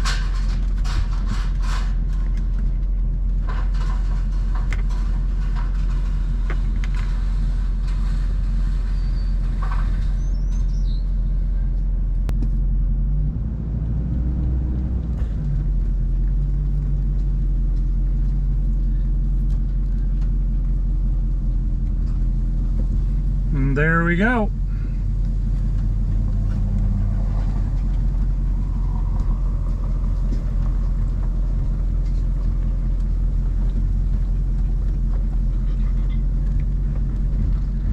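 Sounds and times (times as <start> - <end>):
truck engine running from inside cab: 0.0 - 37.9.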